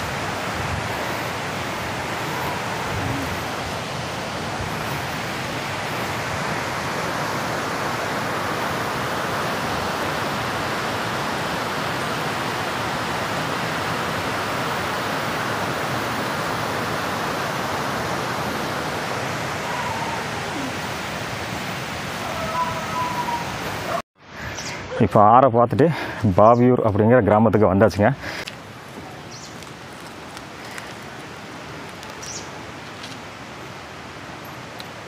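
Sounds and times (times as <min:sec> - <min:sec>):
river and waterfall rushing: 0:00.0 - 0:25.0, 0:27.8 - 0:35.0.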